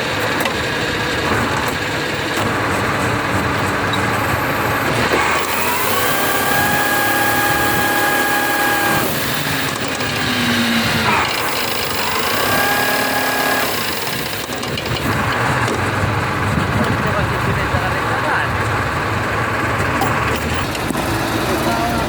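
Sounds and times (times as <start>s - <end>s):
tiller engine revving: 0.0s - 22.0s.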